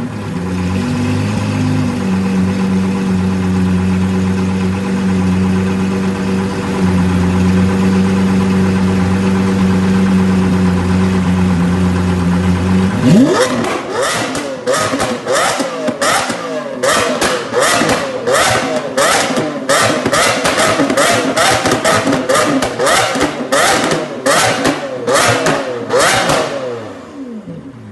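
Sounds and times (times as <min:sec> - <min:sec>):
sports car engine idling: 0:00.0 - 0:27.9.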